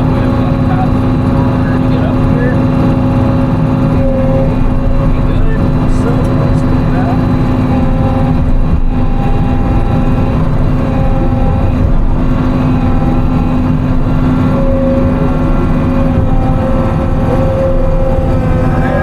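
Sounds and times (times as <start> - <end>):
diesel engine rumbling: 0.0 - 19.0
hydraulic whine: 0.0 - 19.0.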